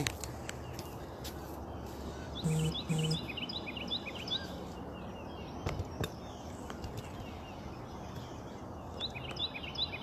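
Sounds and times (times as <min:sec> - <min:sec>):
outdoor background hiss: 0:00.0 - 0:10.0
faint bird chirps: 0:01.7 - 0:10.0.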